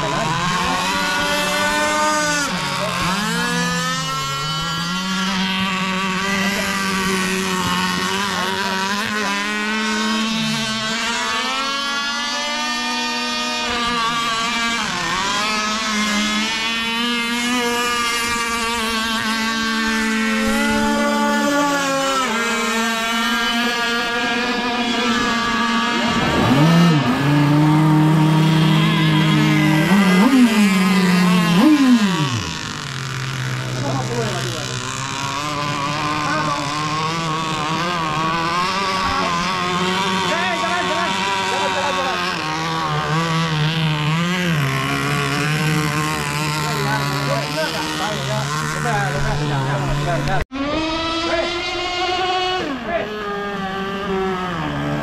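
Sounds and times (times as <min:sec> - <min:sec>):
powerboat engine running: 0:00.0 - 0:55.0.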